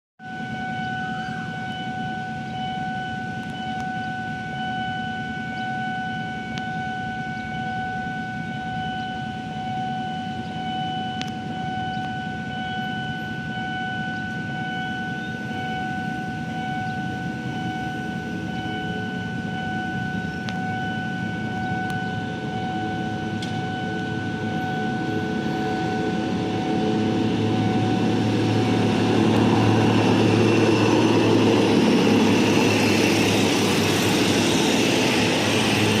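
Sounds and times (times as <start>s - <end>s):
diesel locomotive rumble: 0.2s - 36.0s
electronic warning tone: 0.2s - 36.0s.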